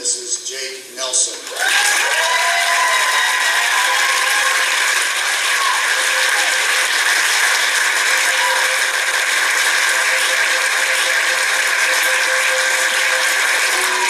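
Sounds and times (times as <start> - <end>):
crowd applauding: 1.4 - 14.0.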